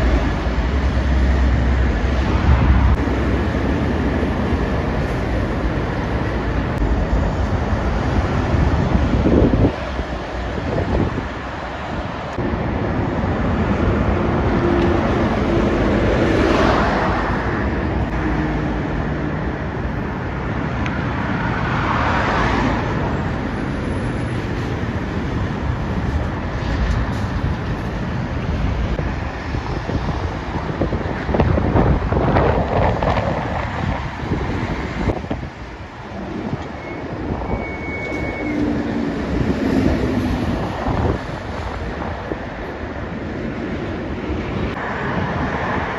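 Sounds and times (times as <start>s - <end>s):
heavy trucks passing: 0.0s - 45.9s
road traffic rush: 0.0s - 45.9s.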